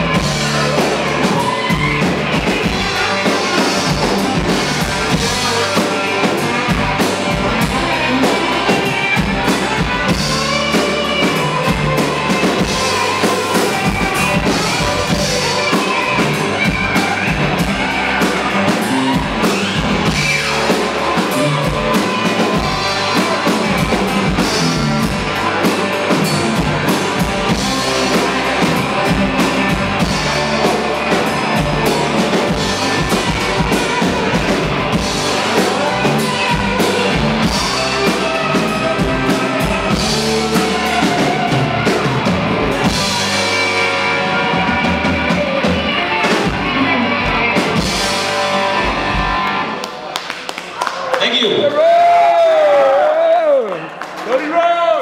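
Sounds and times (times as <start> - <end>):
drum kit steady beat: 0.0 - 49.7
bass guitar: 0.0 - 53.6
electric guitars: 0.0 - 54.3.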